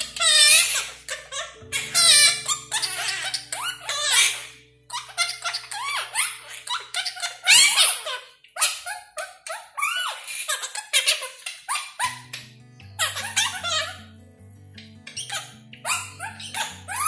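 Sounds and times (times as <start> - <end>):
parrot chattering mimicked voice: 0.0 - 14.1, 15.1 - 17.0
faint background music: 0.0 - 17.0.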